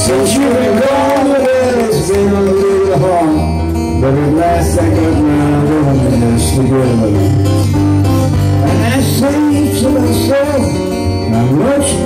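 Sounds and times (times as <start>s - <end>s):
man singing: 0.0s - 7.5s, 8.5s - 12.0s
acoustic guitars strummed: 0.0s - 12.0s.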